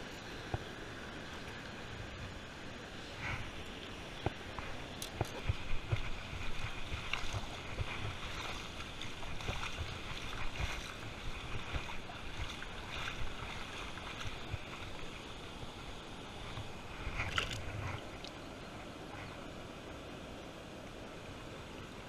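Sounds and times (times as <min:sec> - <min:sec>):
shallow river water sloshing: 0:00.0 - 0:22.0.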